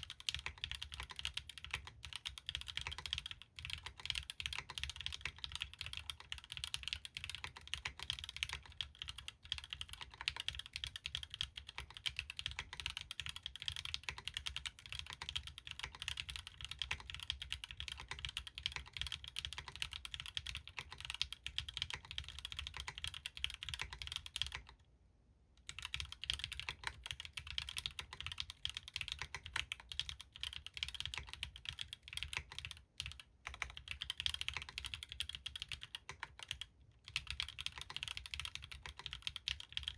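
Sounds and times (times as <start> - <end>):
mechanical keyboard typing: 0.0 - 24.8, 25.6 - 39.9.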